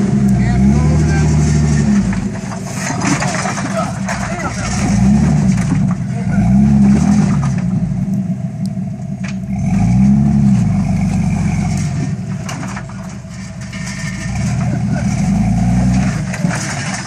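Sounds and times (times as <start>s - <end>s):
engine revving: 0.0s - 8.1s, 9.3s - 17.0s.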